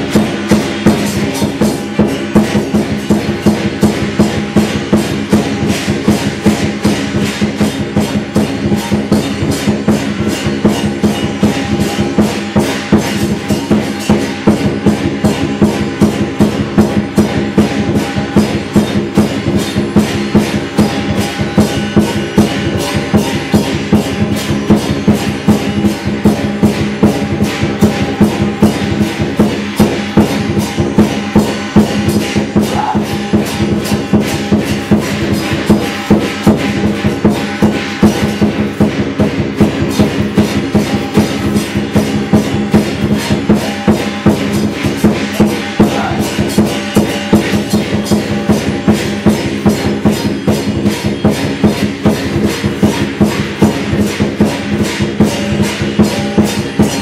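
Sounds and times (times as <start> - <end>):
cymbals crashing: 0.0 - 57.0
drum beating: 0.0 - 57.0
gong ringing: 0.0 - 57.0.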